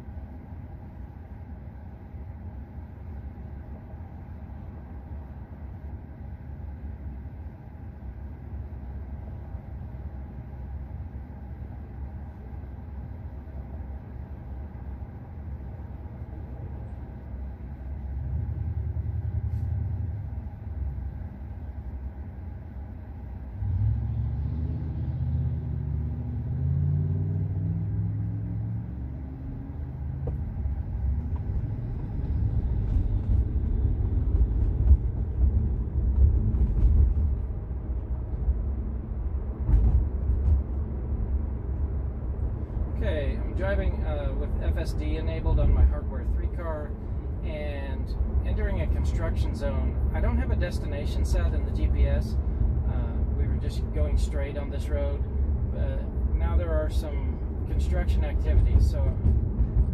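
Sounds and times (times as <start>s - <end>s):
car road and tyre noise: 0.0s - 59.9s.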